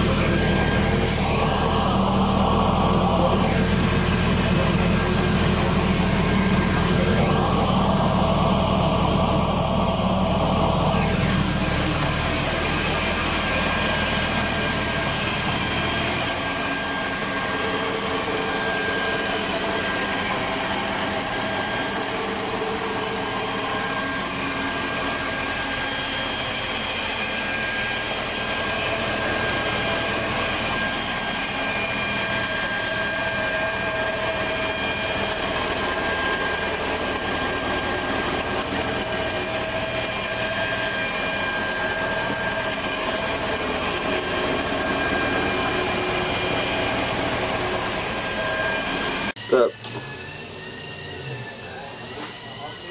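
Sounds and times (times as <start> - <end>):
boat engine running: 0.0 - 52.9
steady whine: 0.0 - 52.9.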